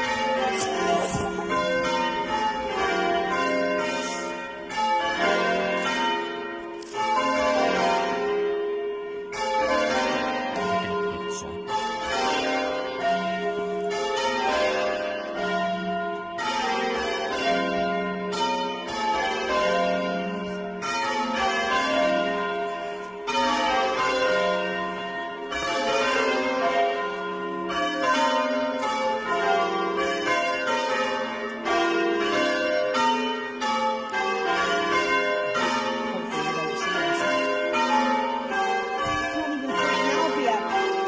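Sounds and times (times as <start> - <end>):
church bells ringing: 0.0 - 41.0.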